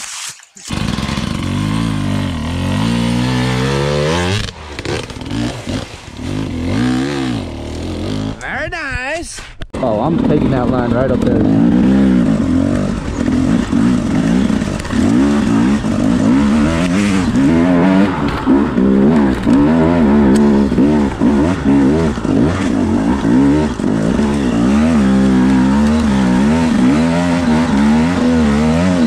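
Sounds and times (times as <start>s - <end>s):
dirt bike engine revving: 0.6s - 8.4s, 9.8s - 29.0s.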